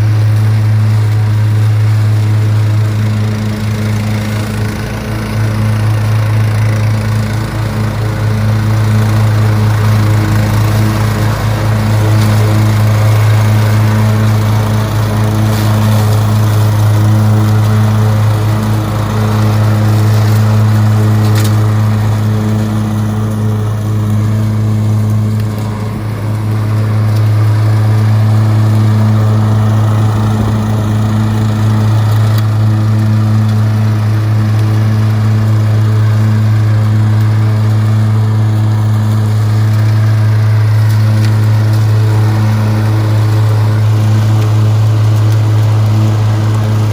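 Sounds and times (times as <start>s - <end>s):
lawn mower engine running: 0.0s - 46.9s.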